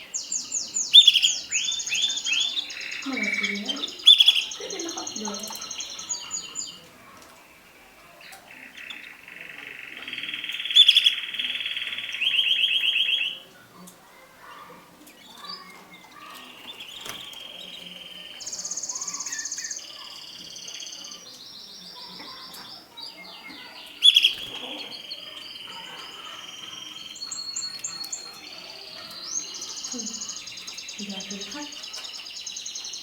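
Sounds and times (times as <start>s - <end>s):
canary singing trilled phrases: 0.0s - 6.8s, 7.4s - 13.5s, 15.2s - 33.0s.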